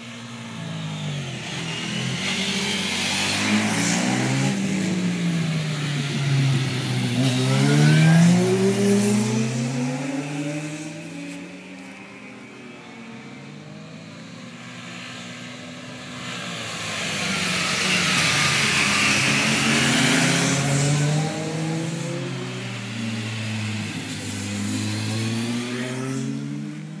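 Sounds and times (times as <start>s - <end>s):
motorcycles passing: 0.0s - 27.0s.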